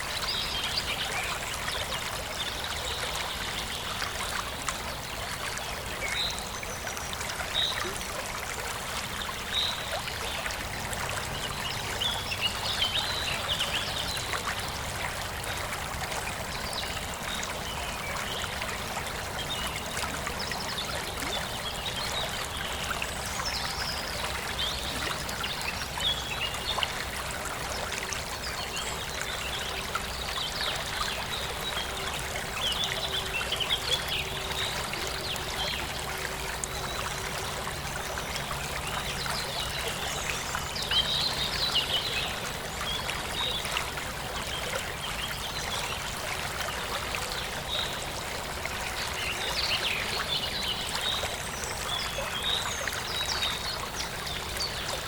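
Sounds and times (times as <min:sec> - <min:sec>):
stream flowing and trickling: 0:00.0 - 0:55.0.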